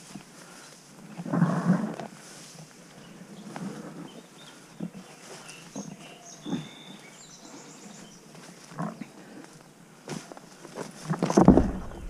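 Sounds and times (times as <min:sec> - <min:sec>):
footsteps through tall grass: 0:01.9 - 0:12.0.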